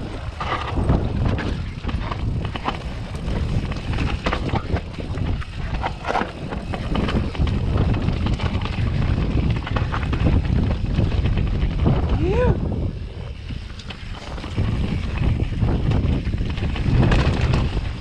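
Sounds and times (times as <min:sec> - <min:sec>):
bike knocks and rattles: 0:00.0 - 0:18.0
wind buffeting microphone: 0:00.0 - 0:18.0.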